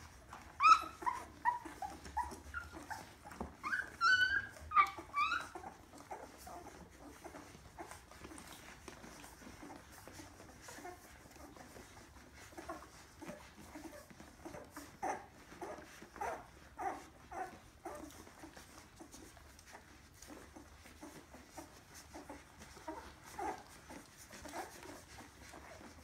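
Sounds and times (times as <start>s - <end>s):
puppies squeaking and whimpering: 0.0s - 26.0s.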